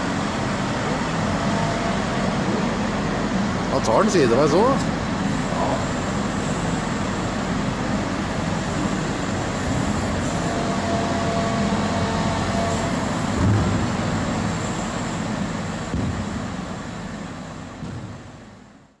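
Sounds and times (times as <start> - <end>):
excavator engine rumbling: 0.0 - 18.8.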